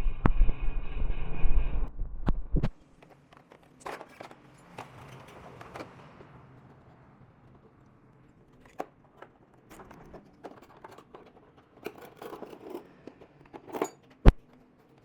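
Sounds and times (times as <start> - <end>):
clicks and scrapes of handling: 2.6 - 15.0.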